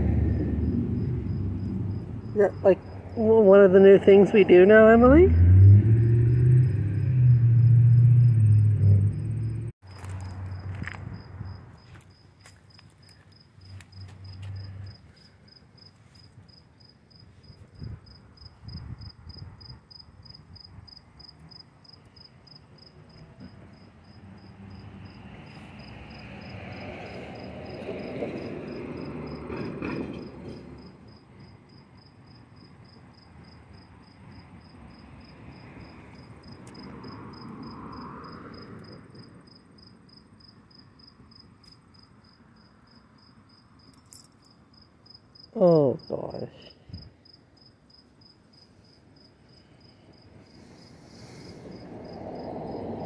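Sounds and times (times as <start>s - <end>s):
insect chirping: 0.2s - 3.6s, 5.3s - 29.4s, 30.8s - 53.0s.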